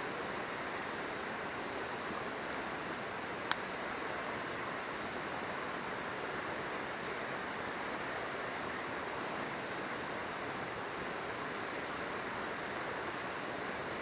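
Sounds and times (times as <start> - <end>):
faint campfire crackle: 0.0 - 14.0
river water rushing: 0.0 - 14.0.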